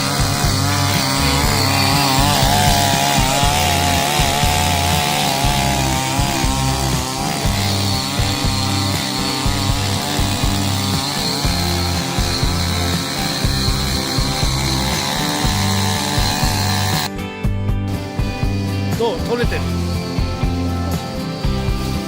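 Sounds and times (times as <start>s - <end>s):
small motorized garden tool running: 0.0s - 17.1s, 18.6s - 22.0s
background music: 0.0s - 22.0s.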